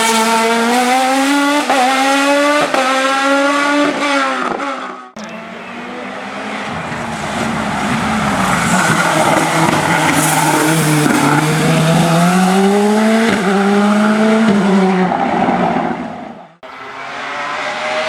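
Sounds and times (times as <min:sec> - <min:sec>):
race car engine passing: 0:00.0 - 0:18.0.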